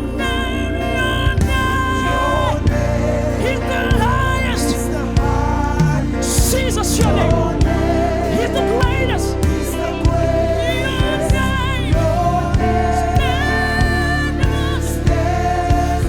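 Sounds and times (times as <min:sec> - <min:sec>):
gospel singing voices: 0:00.0 - 0:16.0
band with bass and drums: 0:01.2 - 0:16.0.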